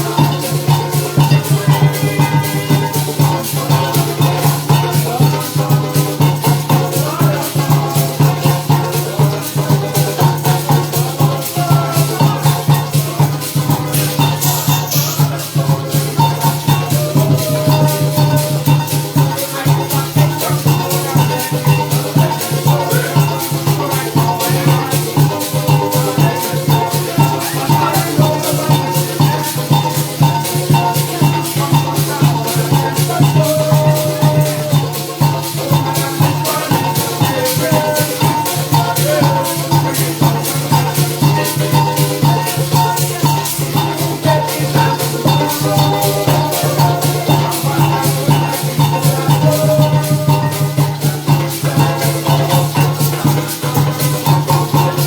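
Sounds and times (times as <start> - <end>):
drum: 0.0 - 55.0
maracas shaking: 0.0 - 55.0
pitched instrument melody: 0.0 - 55.0.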